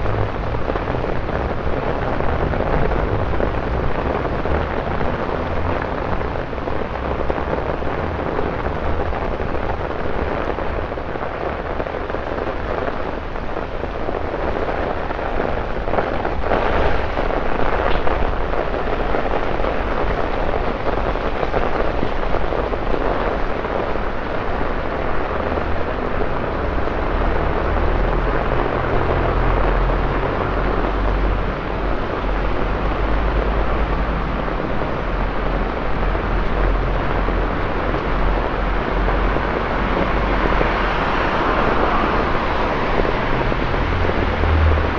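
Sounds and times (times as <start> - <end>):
heavy rain on pavement: 0.0 - 44.9.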